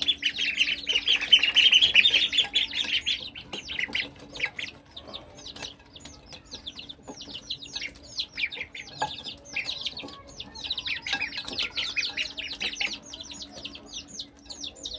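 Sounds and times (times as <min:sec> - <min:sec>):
ducklings and chicks peeping: 0:00.0 - 0:14.9.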